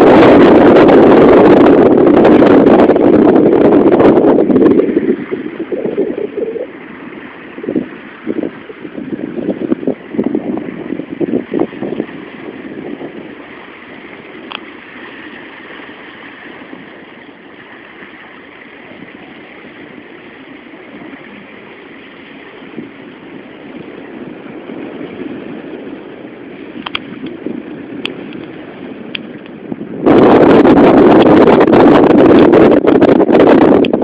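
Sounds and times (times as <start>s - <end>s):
wind gusting on microphone: 0.0s - 34.0s.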